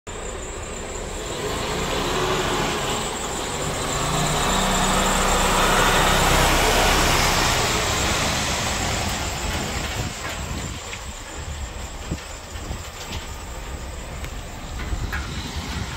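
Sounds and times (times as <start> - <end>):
truck diesel engine: 0.1 - 15.9
tyre and road noise: 0.1 - 15.9.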